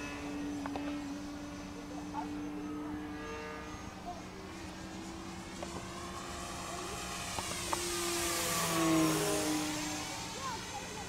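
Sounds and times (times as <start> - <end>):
electric propeller plane whining: 0.0 - 11.0.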